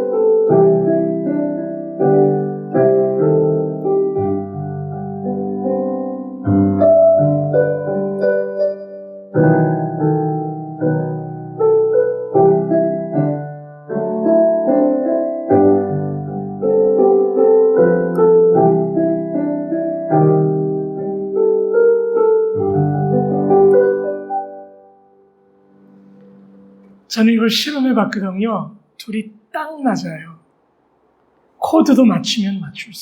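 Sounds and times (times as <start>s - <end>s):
slow piano melody with chords: 0.0s - 27.7s.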